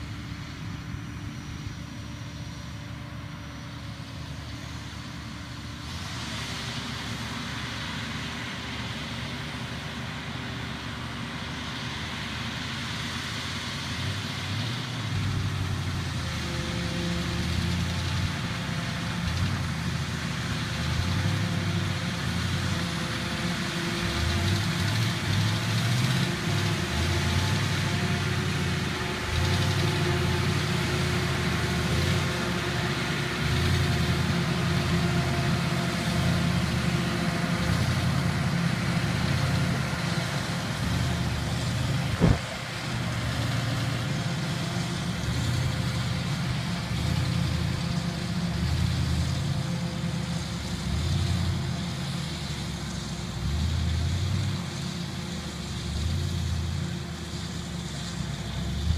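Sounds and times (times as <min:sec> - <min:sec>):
farm machinery engine rumbling: 0:00.0 - 0:58.9.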